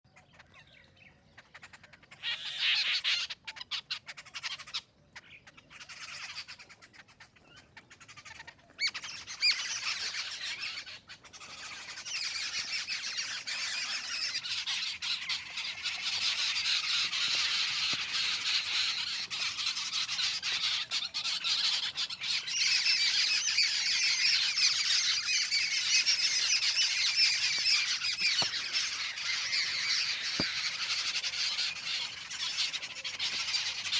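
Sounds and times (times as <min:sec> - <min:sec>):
babblers harsh chatter: 0:05.7 - 0:33.9.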